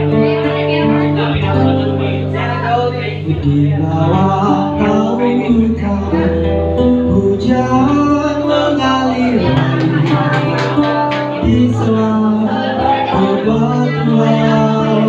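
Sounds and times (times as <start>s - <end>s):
man singing: 0.0s - 15.0s
strummed acoustic guitar: 0.0s - 15.0s.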